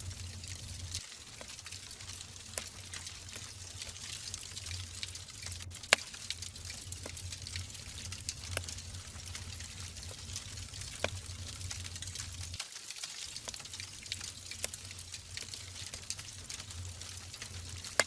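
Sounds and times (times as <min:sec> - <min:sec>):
fire hissing and rumbling: 0:00.0 - 0:18.0
wood crackling and popping: 0:00.0 - 0:18.0.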